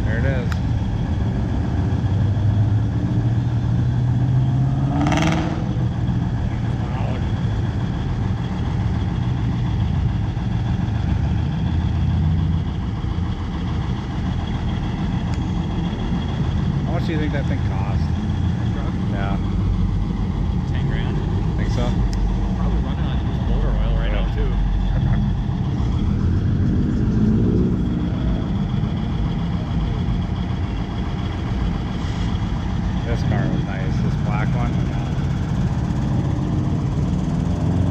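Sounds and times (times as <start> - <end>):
car engine rumbling: 0.0 - 37.9.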